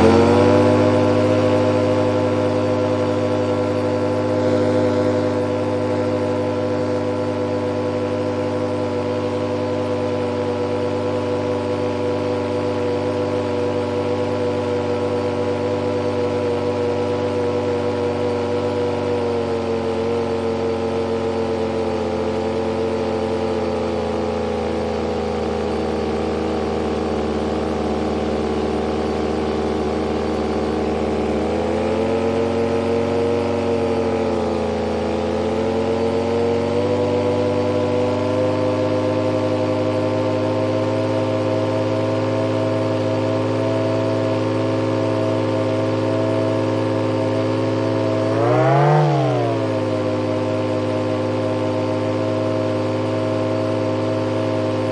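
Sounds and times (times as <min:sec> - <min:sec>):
turbine engine whining: 0:00.0 - 0:54.9.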